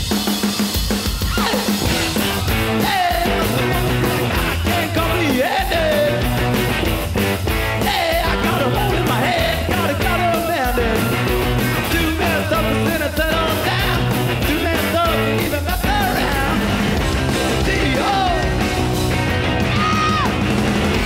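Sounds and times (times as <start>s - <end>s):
distorted electric guitars: 0.0s - 21.0s
fast driving drums: 0.0s - 21.0s
shouted lead vocals: 1.0s - 21.0s.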